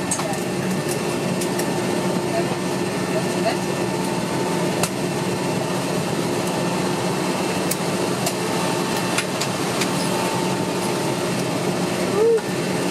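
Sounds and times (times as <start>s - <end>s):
turboprop engine hum and whine: 0.0s - 12.9s.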